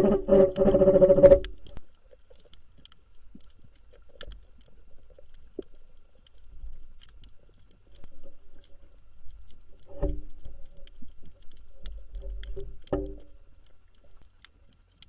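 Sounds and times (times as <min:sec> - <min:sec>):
light clicks and taps: 0:01.7 - 0:15.0.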